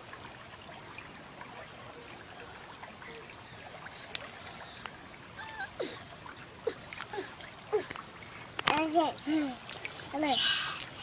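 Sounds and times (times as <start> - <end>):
creek trickling over rocks: 0.0 - 11.0
light water splashes: 0.0 - 11.0.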